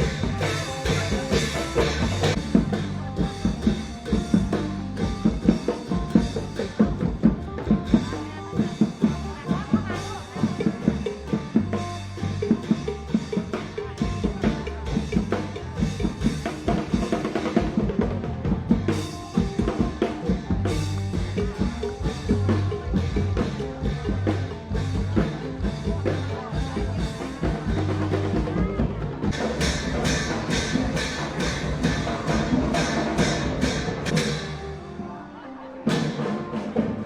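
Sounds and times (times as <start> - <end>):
drum kit beat: 0.0 - 35.0
pulsing bass line: 0.0 - 35.2.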